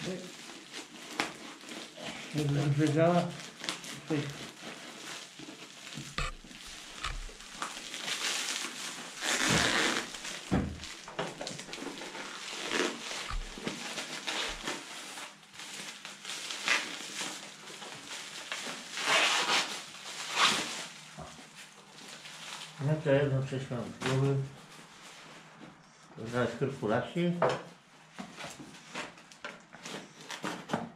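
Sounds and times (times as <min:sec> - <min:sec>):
plastic wrapping crinkling: 0:00.0 - 0:26.6, 0:28.0 - 0:30.9.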